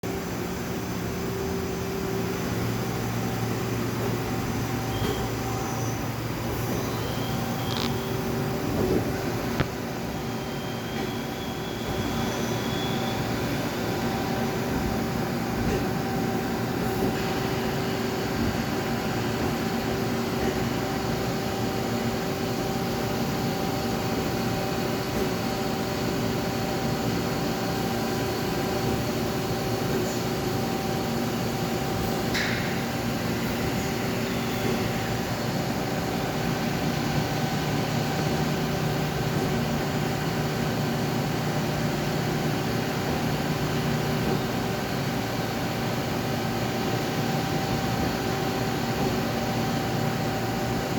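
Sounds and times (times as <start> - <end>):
machinery hum and whirring: 0.0 - 50.9.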